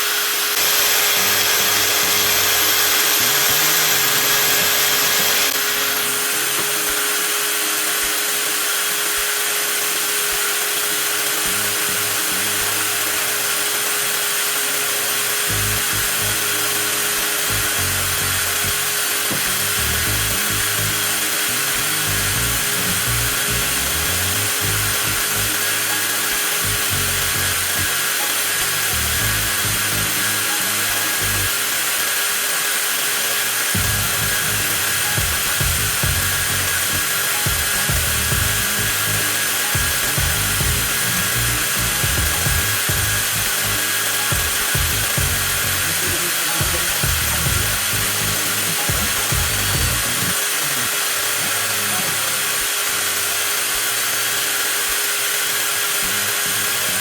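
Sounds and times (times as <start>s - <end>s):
angle grinder whining: 0.0s - 57.0s.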